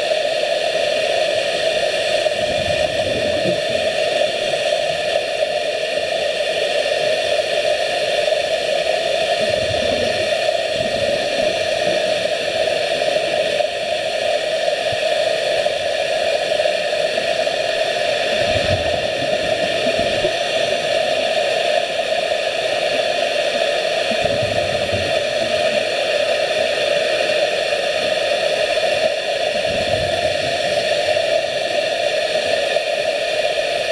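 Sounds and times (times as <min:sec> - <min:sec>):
scuba regulator bubbles: 0:00.0 - 0:33.9
underwater hiss: 0:00.0 - 0:33.9.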